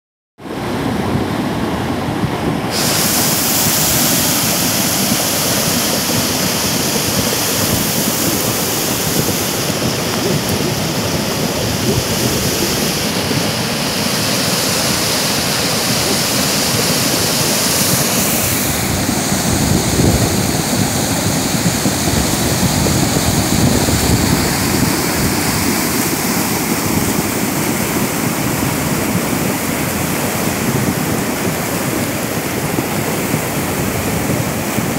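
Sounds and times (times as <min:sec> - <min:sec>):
river floodwater rushing: 0:00.4 - 0:34.9.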